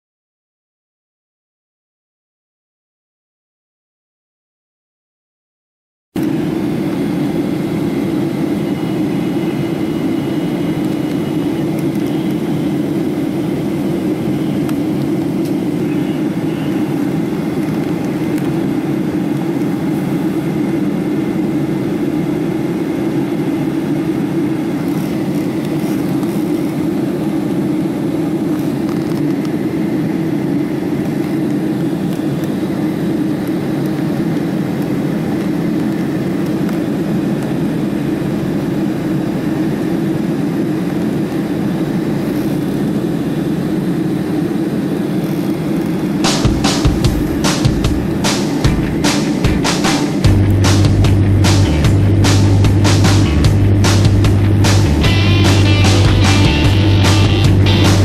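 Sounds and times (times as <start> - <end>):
airliner cabin roar: 6.2 - 58.0.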